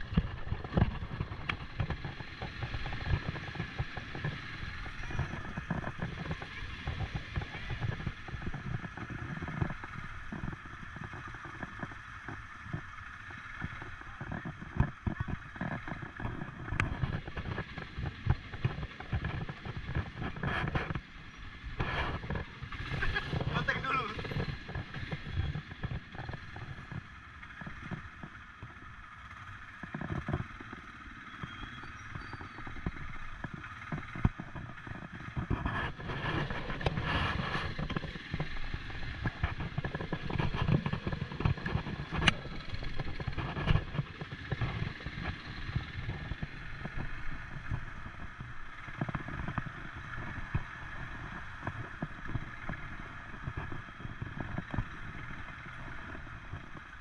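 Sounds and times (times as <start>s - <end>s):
quad bike engine rumble: 0.0s - 57.0s.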